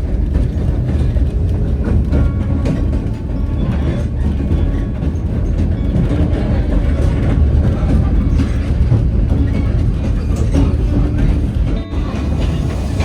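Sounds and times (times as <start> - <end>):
train cars rumbling: 0.0 - 13.0
wheels clacking over track: 0.0 - 13.0.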